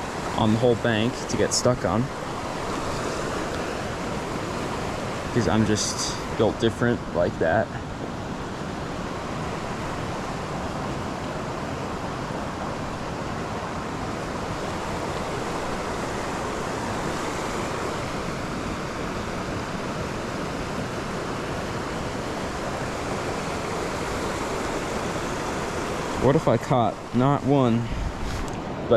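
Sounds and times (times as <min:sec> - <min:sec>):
creek water rushing: 0:00.0 - 0:28.9.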